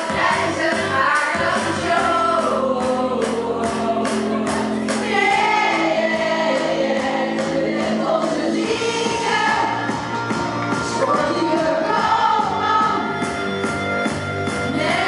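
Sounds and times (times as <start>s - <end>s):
dance music with singing: 0.0s - 15.0s.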